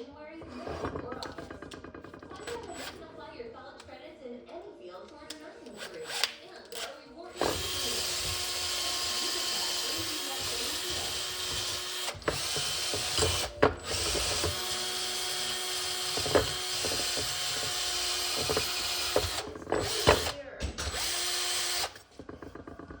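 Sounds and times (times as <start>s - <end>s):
rotary tool motor whine: 0.4s - 3.2s, 5.7s - 23.0s.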